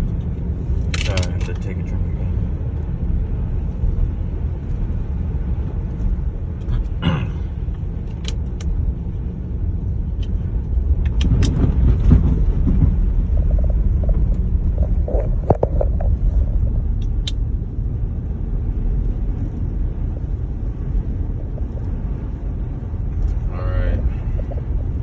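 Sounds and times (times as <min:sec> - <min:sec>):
car cabin road rumble: 0:00.0 - 0:25.0.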